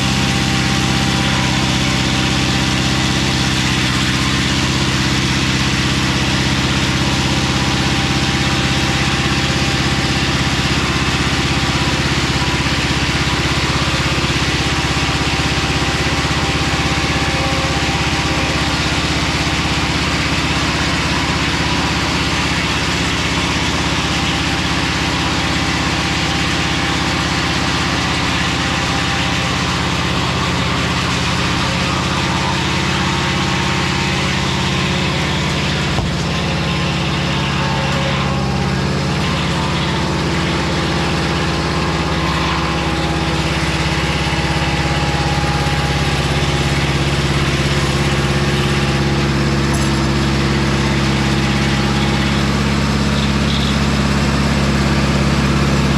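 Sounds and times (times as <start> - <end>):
sawmill running: 0.0 - 55.9.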